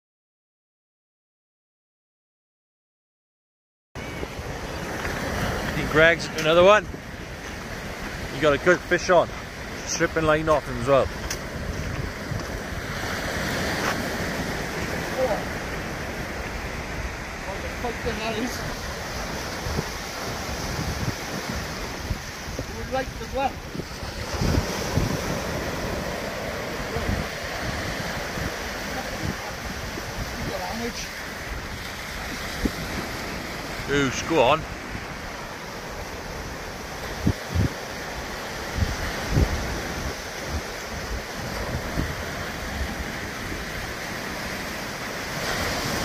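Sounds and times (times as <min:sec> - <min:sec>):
waves breaking on shore: 0:04.0 - 0:46.0
wind buffeting microphone: 0:04.0 - 0:46.0.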